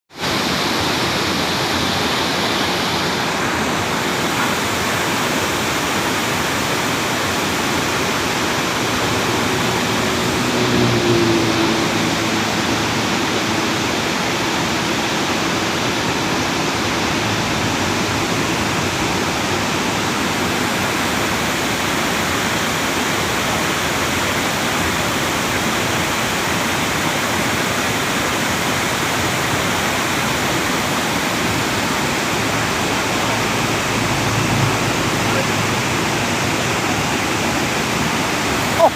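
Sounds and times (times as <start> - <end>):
steady rushing noise: 0.1 - 38.9.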